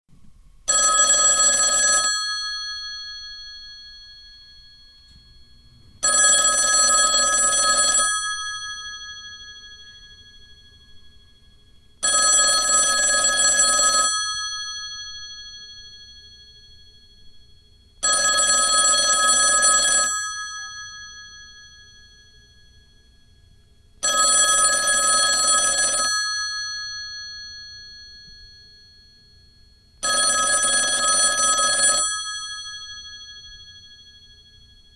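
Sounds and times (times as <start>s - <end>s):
telephone bell ringing: 0.7s - 34.9s.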